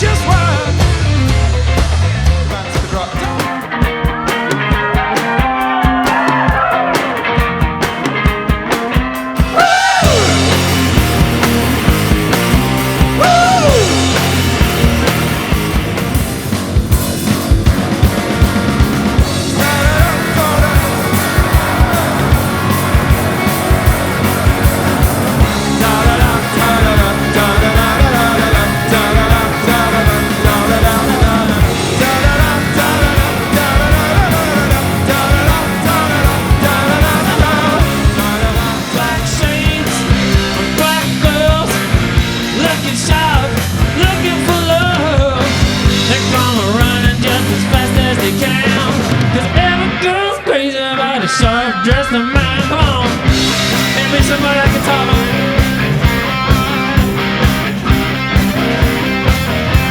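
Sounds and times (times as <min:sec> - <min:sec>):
driving drum beat: 0:00.0 - 0:50.6, 0:51.2 - 0:59.9
live rock band playing: 0:00.0 - 0:59.9.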